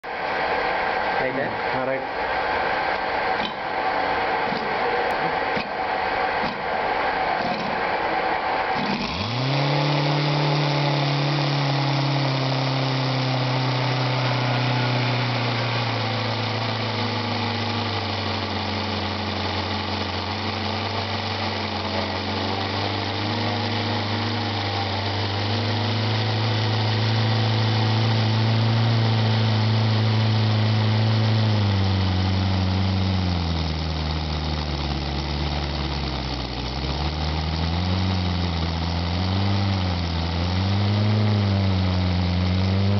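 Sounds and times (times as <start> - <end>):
radial engine running: 0.0 - 42.9.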